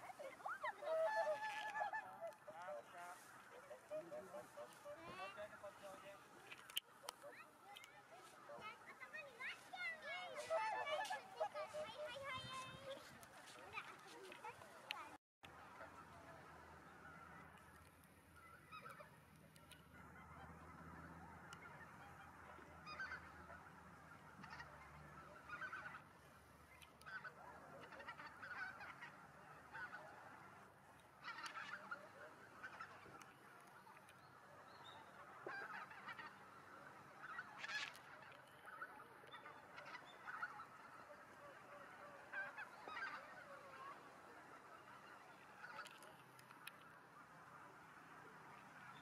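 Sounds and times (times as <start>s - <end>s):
distant geese honking: 0.0s - 49.0s.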